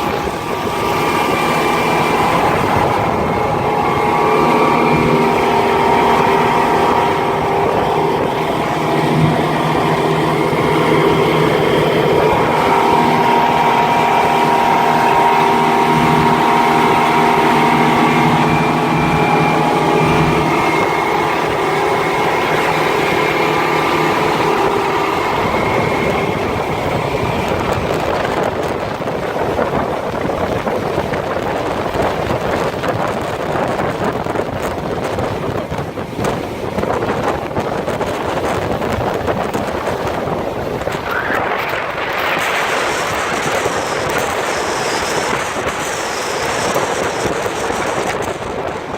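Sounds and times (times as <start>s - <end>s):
outboard engines droning: 0.0s - 48.9s
wind and water rushing: 0.0s - 48.9s.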